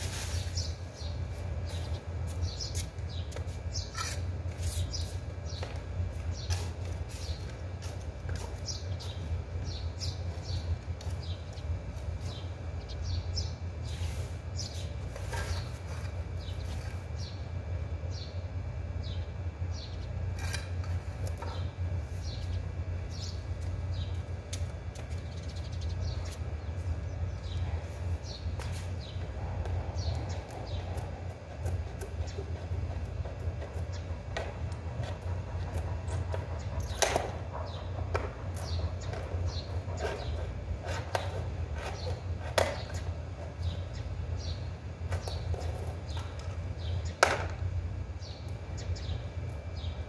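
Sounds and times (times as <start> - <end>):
steady low hum: 0.0 - 50.0
small birds chirping: 0.4 - 17.5, 19.0 - 20.2, 21.3 - 47.2, 48.2 - 50.0.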